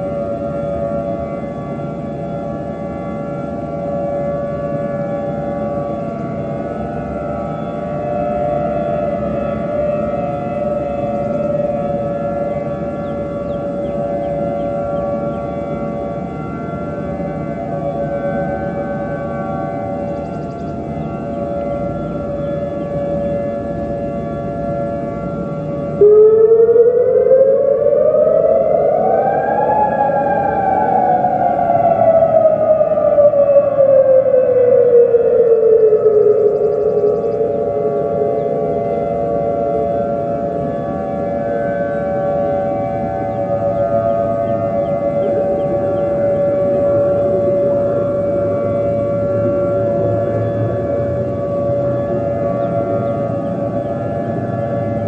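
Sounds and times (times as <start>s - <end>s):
rising and falling siren: 0.0s - 55.0s
steady siren tone: 0.0s - 55.0s.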